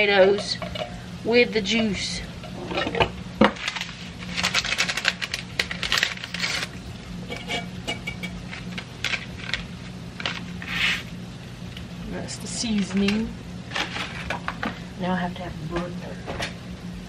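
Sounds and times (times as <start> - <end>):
low appliance hum: 0.0 - 17.0.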